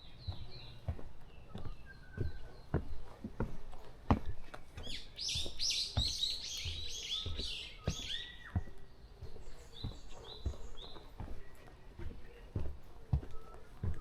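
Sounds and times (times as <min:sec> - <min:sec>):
footstep thuds: 0:00.0 - 0:14.0
songbirds singing: 0:00.0 - 0:14.0.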